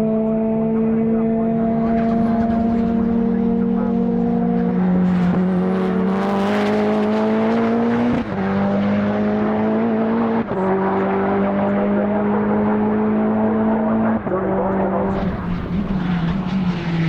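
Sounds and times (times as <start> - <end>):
race car engine pulling hard: 0.0 - 17.0.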